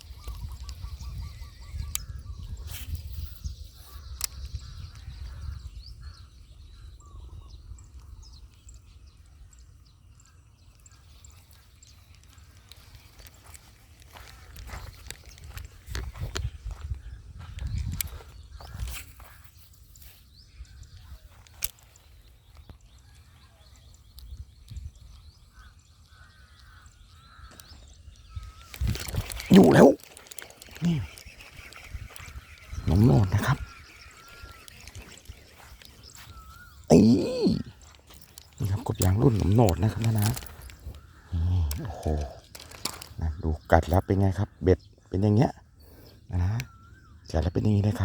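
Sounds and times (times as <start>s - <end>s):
wind rumble on microphone: 0.0s - 9.6s, 13.4s - 22.1s, 22.7s - 44.2s
bird calls and chirps: 0.0s - 48.0s.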